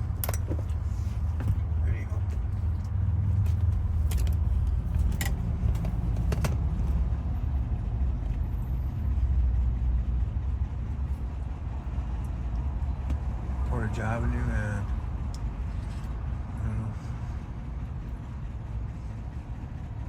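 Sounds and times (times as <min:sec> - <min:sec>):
vehicle cabin low rumble: 0:00.0 - 0:20.0.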